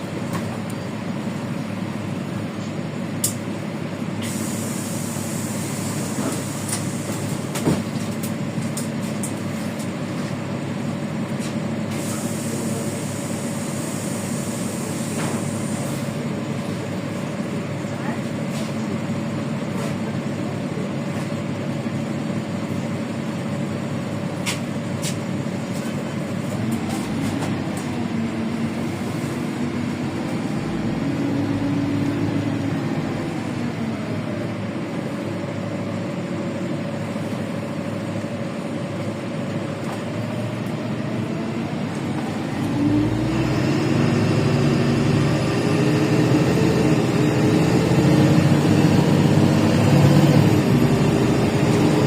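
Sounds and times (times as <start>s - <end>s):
bus engine with whine: 0.0s - 52.0s.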